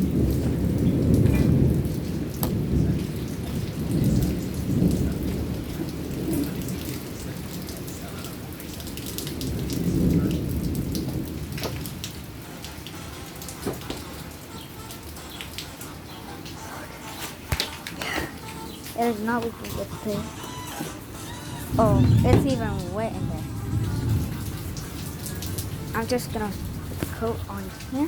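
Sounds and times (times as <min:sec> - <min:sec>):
thunder rumbling: 0:00.0 - 0:16.6, 0:17.4 - 0:28.0
heavy rain hiss: 0:00.0 - 0:28.0
raindrops ticking sharply: 0:00.0 - 0:28.0.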